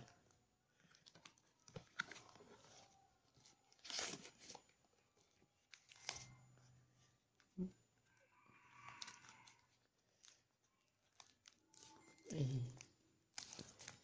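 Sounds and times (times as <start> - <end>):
packaging rustling and crinkling: 0.0 - 6.4, 8.9 - 14.0.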